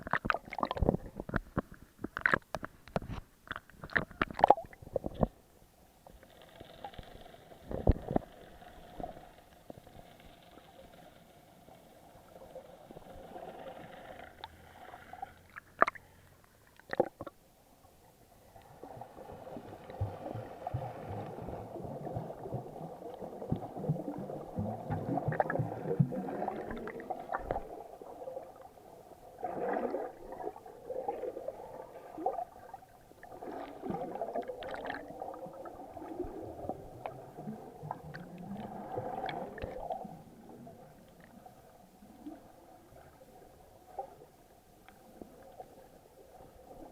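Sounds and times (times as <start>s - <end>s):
gurgling water and bubbles: 0.0s - 46.9s.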